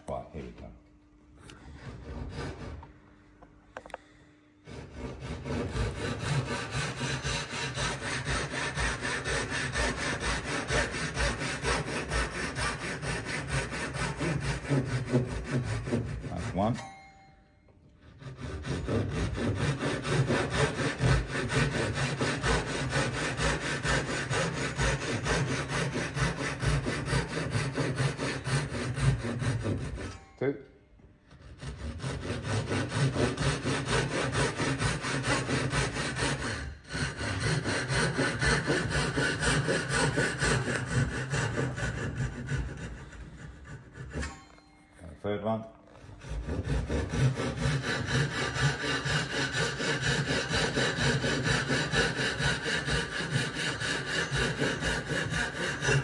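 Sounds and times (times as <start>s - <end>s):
hand saw cutting wood: 1.5s - 2.9s, 4.6s - 17.0s, 18.0s - 30.4s, 31.3s - 44.5s, 45.9s - 56.0s.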